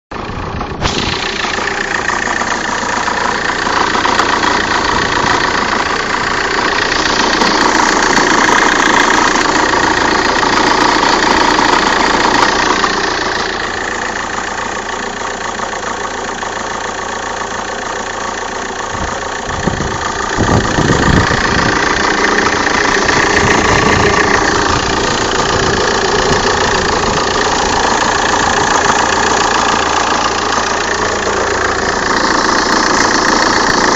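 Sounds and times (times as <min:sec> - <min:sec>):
diesel engine idling: 0:00.1 - 0:33.9
engine knocking: 0:00.1 - 0:33.9.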